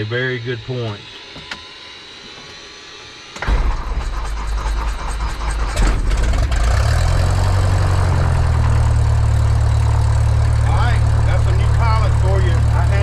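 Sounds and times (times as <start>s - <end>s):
piston engine starting and idling: 0.9s - 13.0s.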